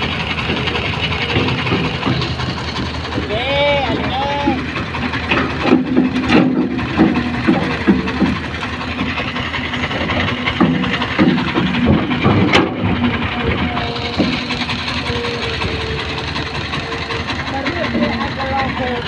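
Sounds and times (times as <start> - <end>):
excavator engine humming: 0.0 - 19.0
metal knocks and clanks: 0.0 - 19.0.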